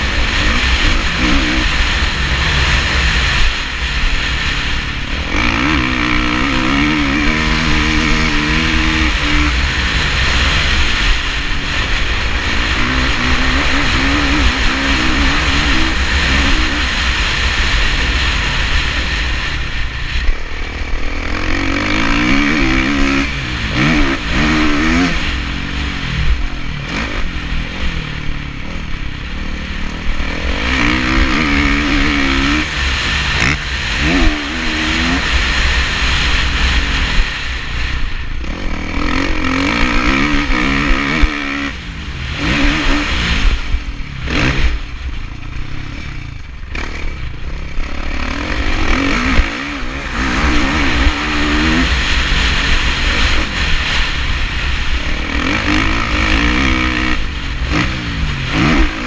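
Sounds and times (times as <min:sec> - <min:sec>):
motocross engine revving hard: 0:00.0 - 0:59.0.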